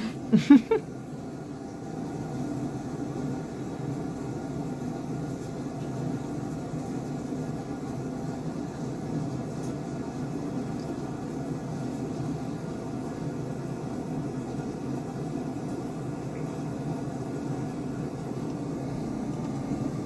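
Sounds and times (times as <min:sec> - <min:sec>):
faint hum: 0:00.0 - 0:13.9, 0:15.6 - 0:20.0.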